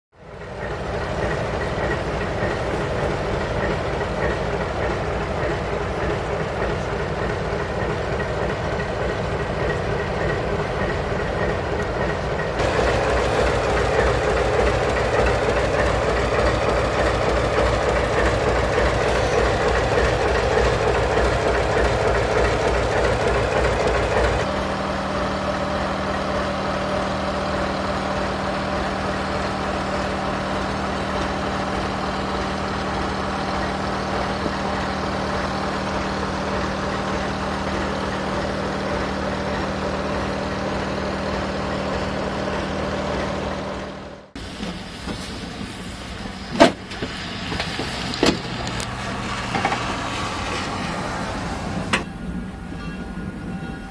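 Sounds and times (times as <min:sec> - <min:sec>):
diesel locomotive engine running: 0:00.1 - 0:53.9
train cars rolling past hum: 0:00.2 - 0:53.9.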